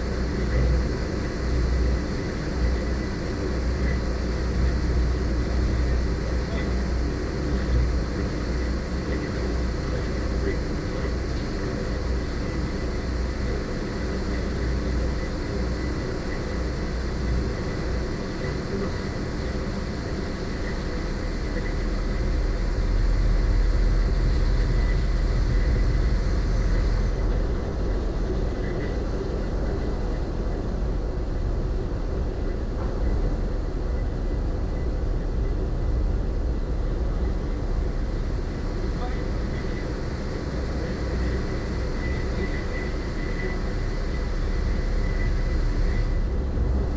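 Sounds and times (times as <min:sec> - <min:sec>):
ferry diesel engines rumbling: 0:00.0 - 0:46.9.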